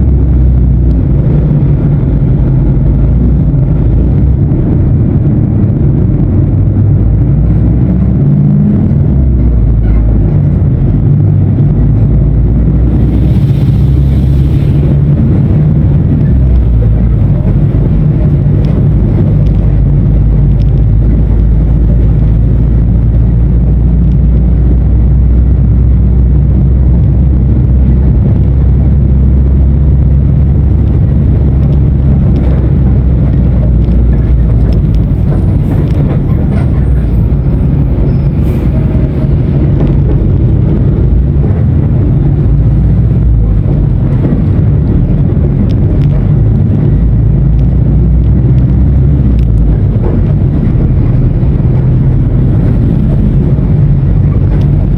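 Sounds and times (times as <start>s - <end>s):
bus diesel engine droning: 0.0s - 54.9s.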